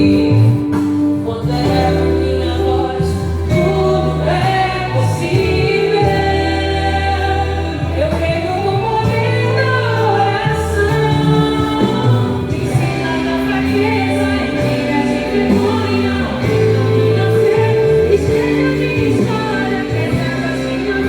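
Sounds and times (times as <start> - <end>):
person singing: 0.0 - 21.0
sustained instrumental backing: 0.0 - 21.0.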